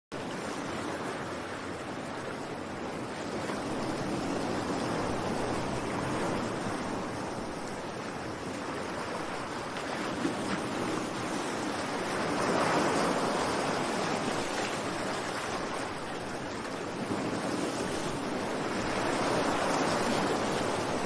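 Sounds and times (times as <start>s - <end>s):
waves breaking on rocky shore: 0.2s - 21.0s.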